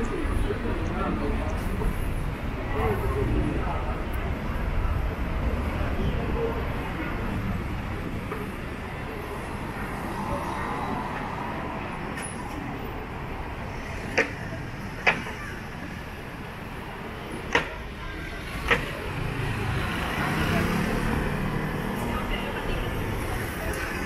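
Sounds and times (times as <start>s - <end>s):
city street traffic: 0.0s - 24.0s.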